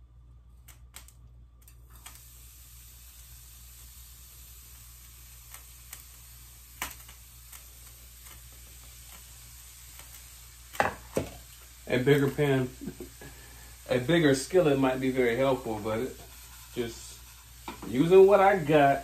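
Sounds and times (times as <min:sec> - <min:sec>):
zucchini noodles sizzling in a pan: 0:01.8 - 0:19.0.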